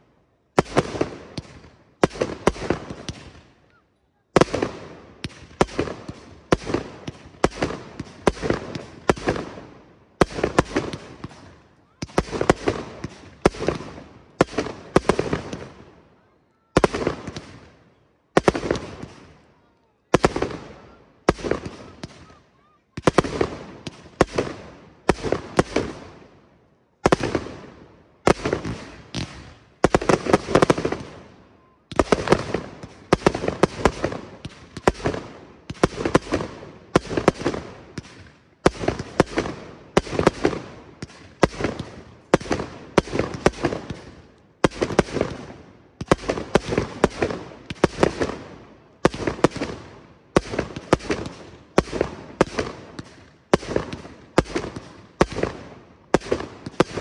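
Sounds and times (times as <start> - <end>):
fireworks bursting with echo: 0.0 - 57.0.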